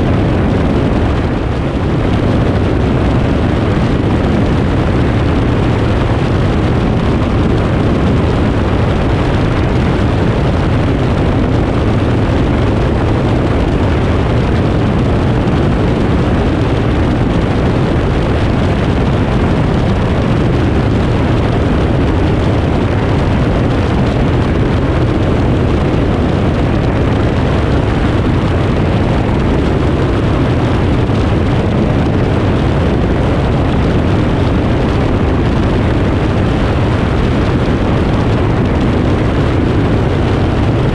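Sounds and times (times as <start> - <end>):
light aircraft engine droning: 0.0 - 40.9
rushing airflow: 0.0 - 40.9.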